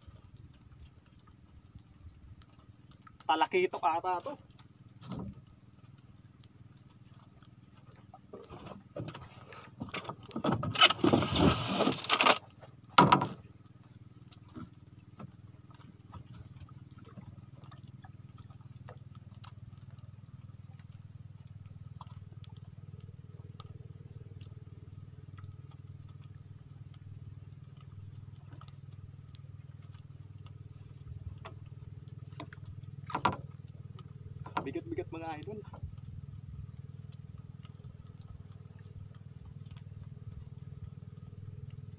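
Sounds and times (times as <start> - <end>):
low engine hum: 0.0 - 41.9.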